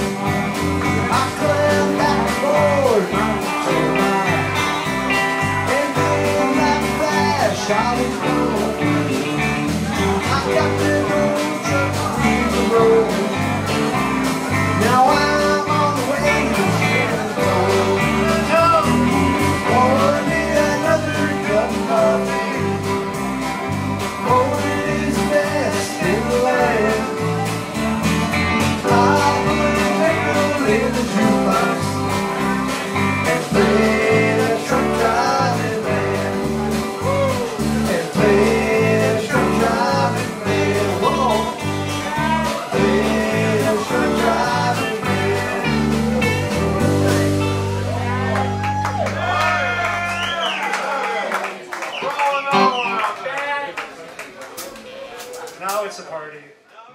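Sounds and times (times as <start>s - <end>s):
man singing: 0.0s - 47.5s
electric bass: 0.0s - 50.4s
electric guitars: 0.0s - 50.7s, 52.3s - 53.2s
drums: 0.0s - 50.8s.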